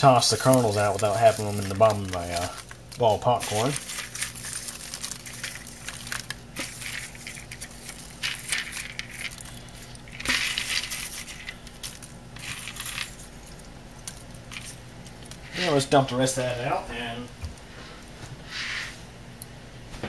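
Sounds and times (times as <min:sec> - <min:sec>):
kernels rattling in bowl: 0:00.0 - 0:16.5
popcorn rustling: 0:00.0 - 0:19.9.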